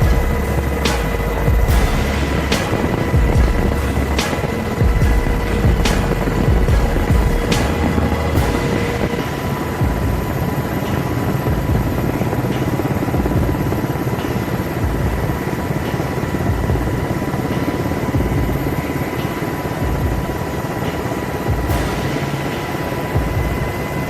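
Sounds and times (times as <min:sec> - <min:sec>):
aircraft rumble: 0:00.0 - 0:24.0
thin steady whine: 0:00.0 - 0:24.0.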